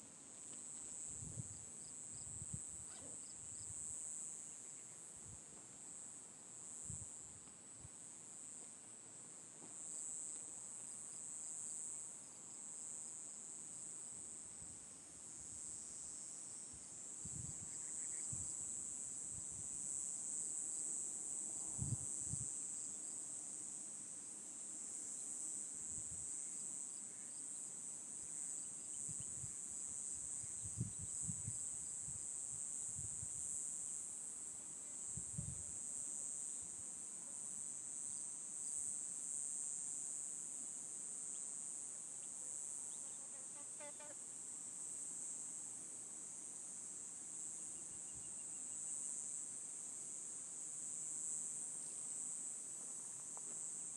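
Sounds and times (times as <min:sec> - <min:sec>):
high-pitched insect chorus: 0:00.4 - 0:05.4, 0:13.7 - 0:53.9.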